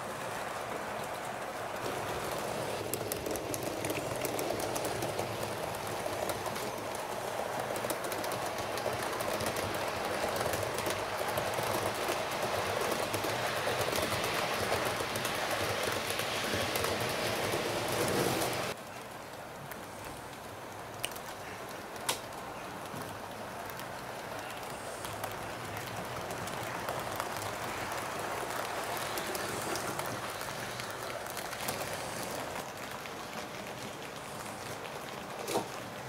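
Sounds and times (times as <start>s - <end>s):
model train running on track: 0.0s - 36.0s
wheels clicking on rail: 0.0s - 36.0s.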